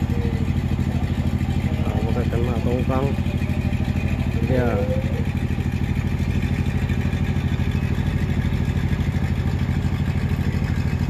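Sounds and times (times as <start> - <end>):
boat engine pulsing steadily: 0.0 - 11.0.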